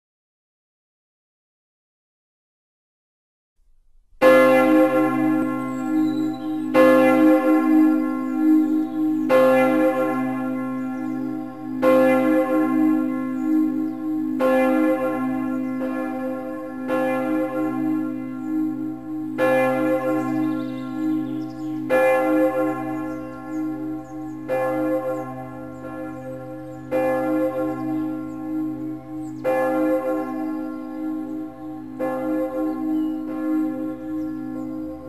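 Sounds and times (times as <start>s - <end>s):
large bell tolling: 4.2s - 35.0s.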